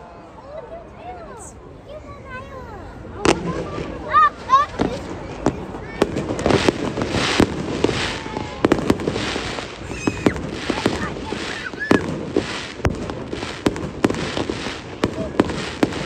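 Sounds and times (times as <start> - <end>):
fireworks crackling: 2.2 - 16.0
fireworks bangs: 3.0 - 16.0.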